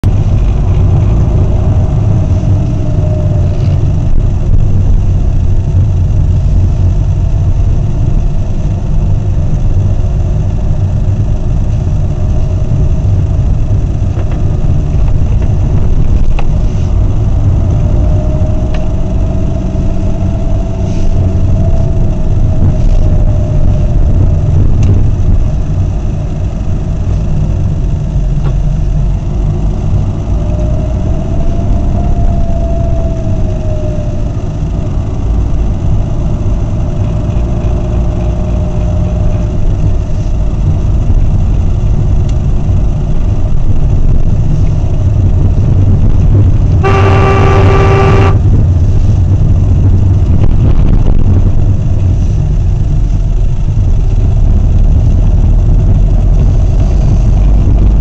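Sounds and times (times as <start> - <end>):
vehicle engine running at low speed: 0.0 - 58.0.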